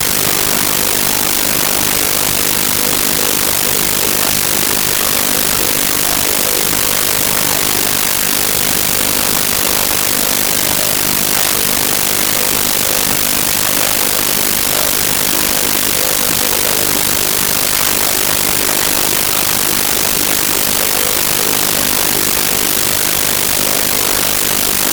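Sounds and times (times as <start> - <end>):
loud hiss and static: 0.0 - 24.9.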